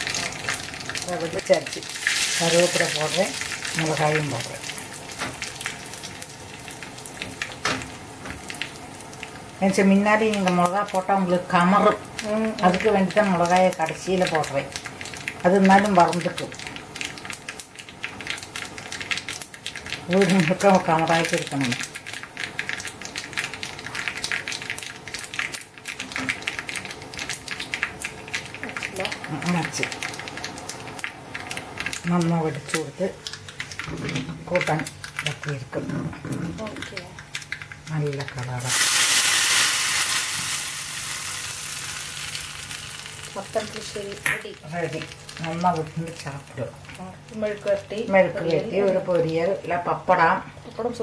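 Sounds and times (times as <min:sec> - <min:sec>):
seeds popping in hot oil: 0:00.0 - 0:51.0.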